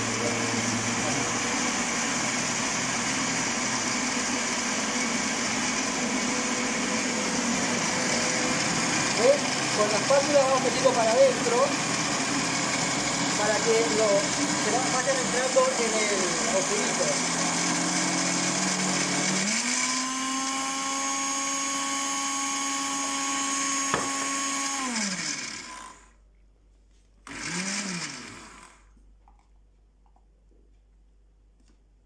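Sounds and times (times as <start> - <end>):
blender motor grinding: 0.0 - 26.2, 27.2 - 29.0.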